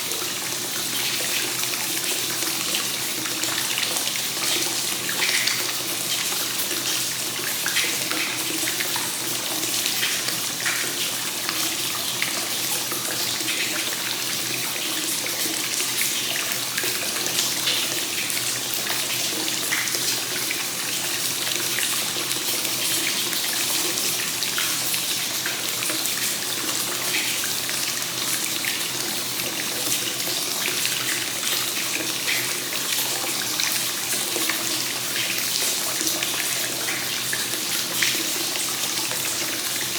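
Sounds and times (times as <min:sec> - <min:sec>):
water pouring into a bath: 0:00.0 - 0:39.9.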